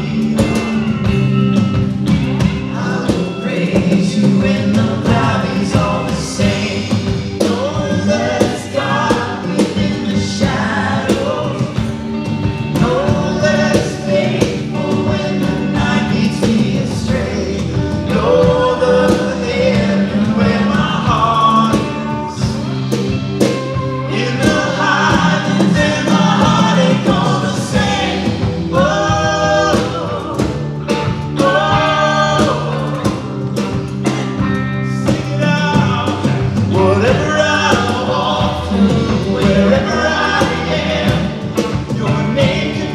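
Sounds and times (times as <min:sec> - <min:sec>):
bass notes: 0:00.0 - 0:42.9
drum strokes: 0:00.0 - 0:42.9
live band playing: 0:00.0 - 0:42.9
person singing: 0:00.0 - 0:42.9.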